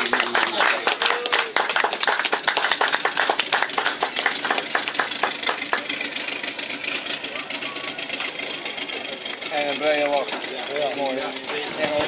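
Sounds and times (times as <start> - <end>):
crowd applause: 0.0 - 12.0.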